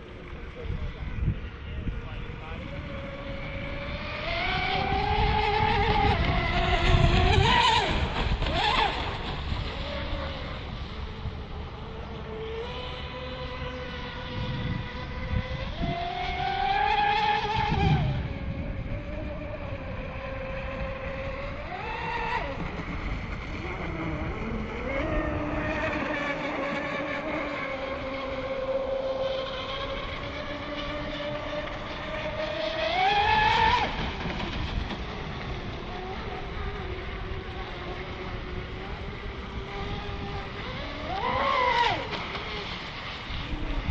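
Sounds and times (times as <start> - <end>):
racing boat motor whine: 0.0 - 43.9.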